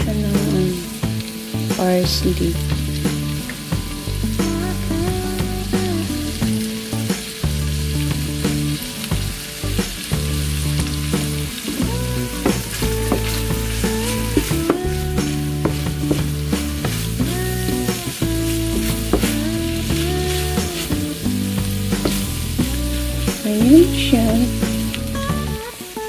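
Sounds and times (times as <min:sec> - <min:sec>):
background music gliding tones: 0:00.0 - 0:26.0
food sizzling in frying pan: 0:00.0 - 0:26.0.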